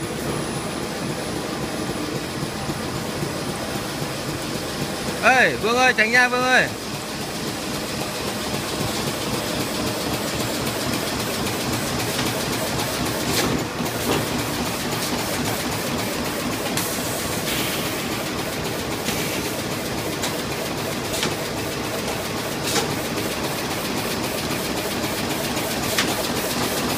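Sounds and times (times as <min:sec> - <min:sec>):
bag-making machine clattering: 0:01.8 - 0:26.9.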